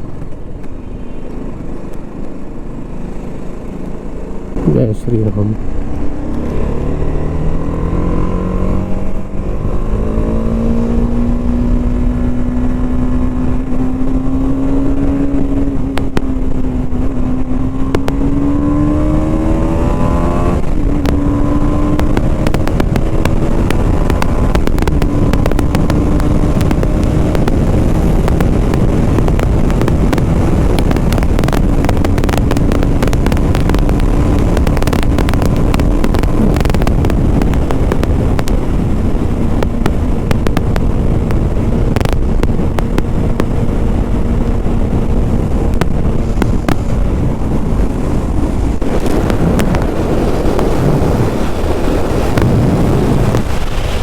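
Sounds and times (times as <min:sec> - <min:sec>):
motorcycle engine accelerating: 0:00.0 - 0:54.0
wind rushing on microphone: 0:00.0 - 0:54.0.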